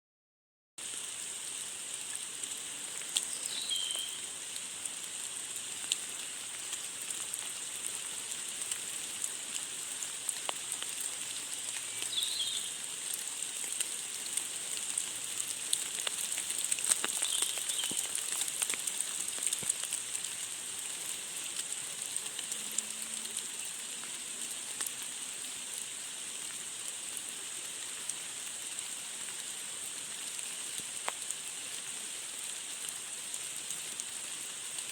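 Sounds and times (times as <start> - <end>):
steady rain falling: 0.8 - 34.9.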